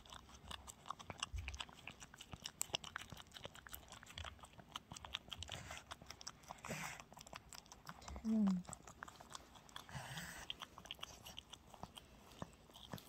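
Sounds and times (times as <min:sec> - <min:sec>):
dog chewing and lapping: 0:00.0 - 0:13.0.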